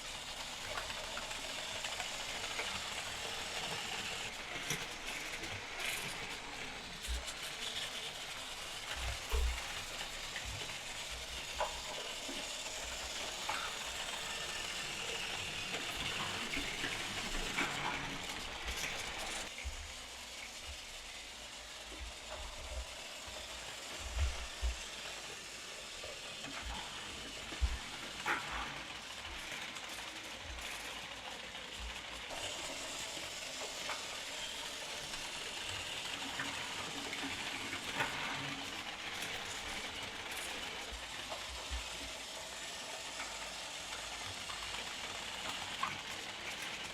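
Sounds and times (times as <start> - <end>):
toy train whirring hum: 0.0 - 46.9.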